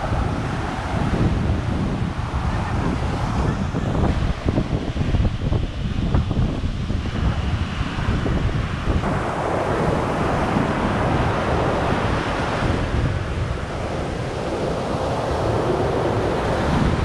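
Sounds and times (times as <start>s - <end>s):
ocean surf breaking on sand: 0.0s - 17.0s
wind rumbling on microphone: 0.0s - 17.0s.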